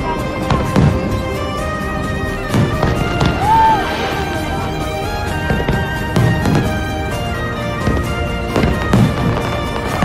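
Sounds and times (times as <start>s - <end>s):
music: 0.0s - 10.0s
fireworks bursting: 0.4s - 10.0s.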